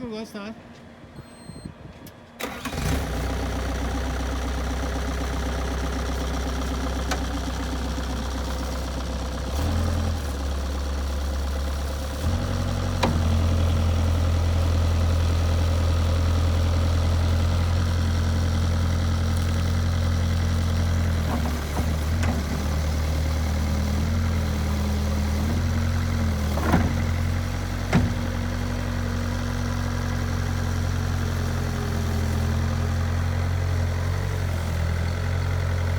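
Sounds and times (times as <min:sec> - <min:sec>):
diesel engine starting and running: 0:00.6 - 0:35.9.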